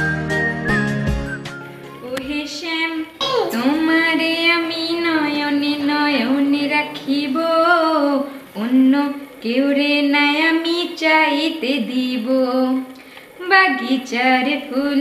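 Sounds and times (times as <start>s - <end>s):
woman singing unaccompanied: 1.9s - 15.0s.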